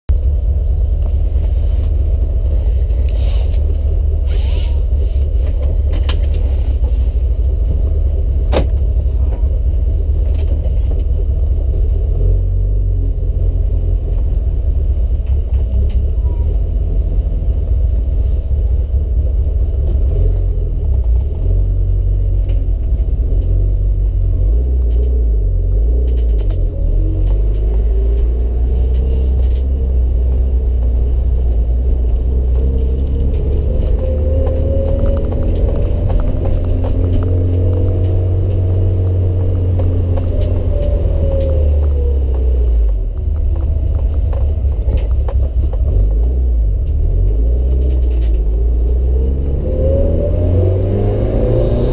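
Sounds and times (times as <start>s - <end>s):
car engine low rumble: 0.0s - 51.9s.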